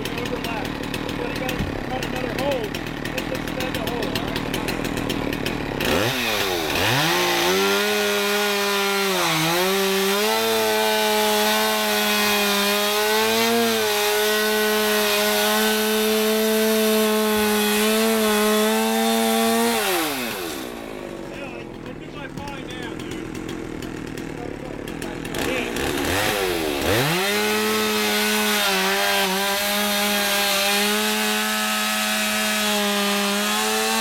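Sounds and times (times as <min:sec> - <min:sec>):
chainsaw revving and cutting: 0:00.0 - 0:34.0.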